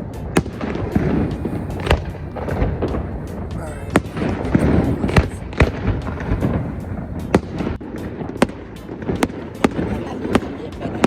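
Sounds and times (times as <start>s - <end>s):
distant fireworks booms: 0.0s - 11.0s
fireworks cracking: 0.0s - 11.0s.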